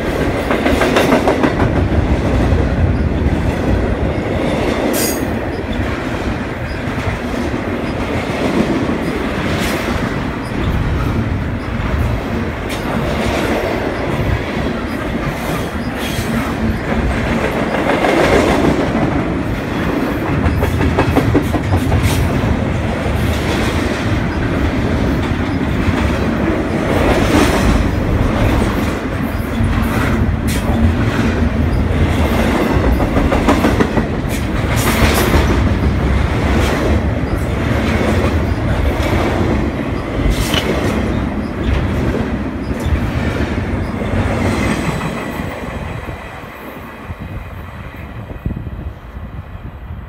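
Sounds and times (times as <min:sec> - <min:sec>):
clickety-clack over rail joints: 0:00.0 - 0:48.6
train wheels rumbling on rails: 0:00.0 - 0:50.0.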